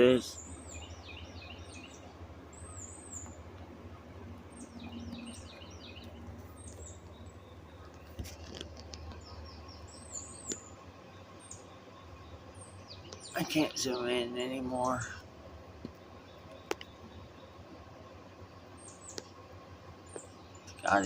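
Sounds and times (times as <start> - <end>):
steady low hum: 0.0 - 21.0
wild birds chirping: 0.0 - 21.0.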